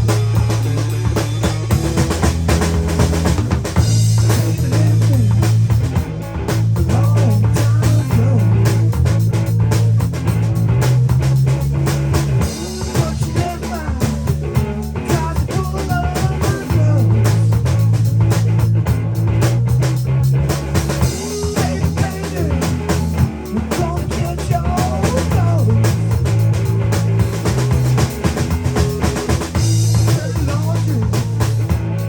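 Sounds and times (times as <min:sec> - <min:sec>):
bass line: 0:00.0 - 0:32.0
drum kit beat: 0:00.0 - 0:32.0
guitar lines: 0:00.0 - 0:32.0.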